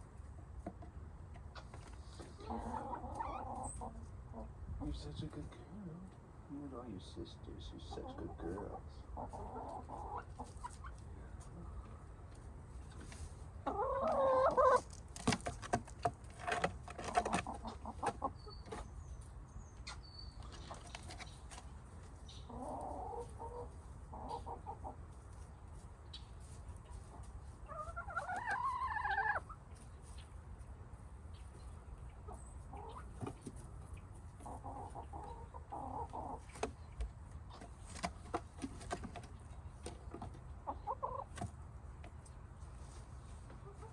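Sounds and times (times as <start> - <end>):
hens clucking and calling: 0.0 - 5.5, 7.5 - 43.9.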